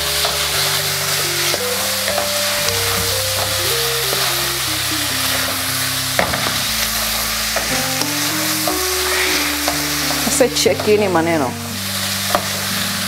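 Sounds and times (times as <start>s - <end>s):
soft background melody: 0.0s - 13.0s
vegetables sizzling in hot oil: 0.0s - 13.0s.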